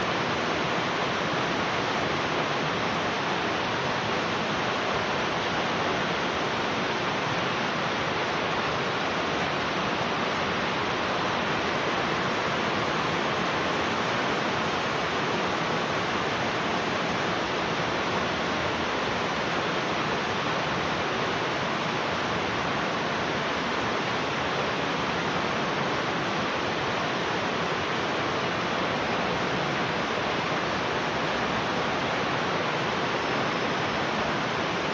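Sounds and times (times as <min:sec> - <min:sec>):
heavy rain hiss: 0:00.0 - 0:34.9.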